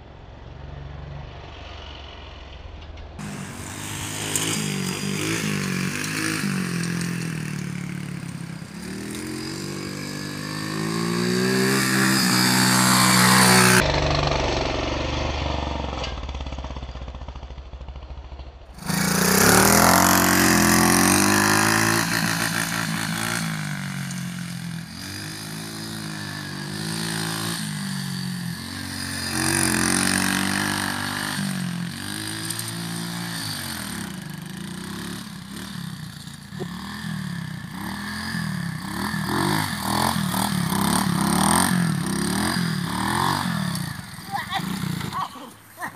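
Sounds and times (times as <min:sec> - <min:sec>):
motorbike engine revving: 0:03.2 - 0:45.9.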